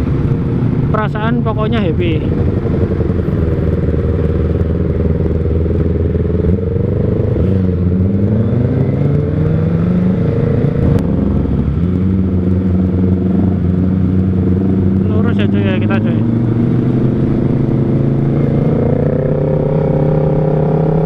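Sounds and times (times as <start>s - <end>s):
motorcycle engine while riding: 0.0s - 21.0s.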